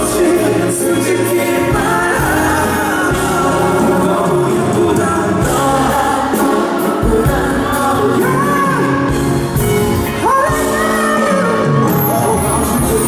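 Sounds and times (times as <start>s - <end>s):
man singing into a microphone: 0.0s - 9.1s, 10.2s - 13.0s
pop band accompaniment: 0.0s - 13.0s.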